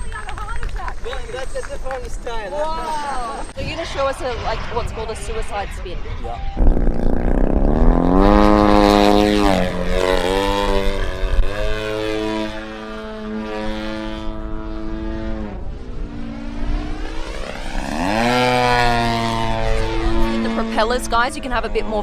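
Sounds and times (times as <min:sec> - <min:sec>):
model plane motor and propeller: 0:00.0 - 0:22.0.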